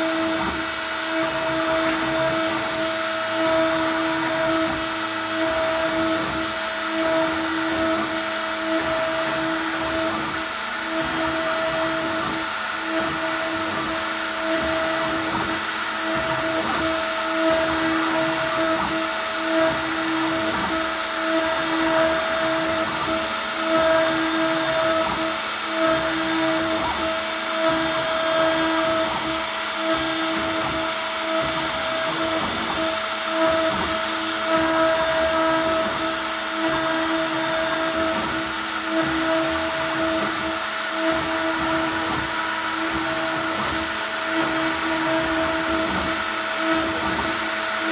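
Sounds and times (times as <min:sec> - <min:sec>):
router spindle whine: 0:00.0 - 0:47.9.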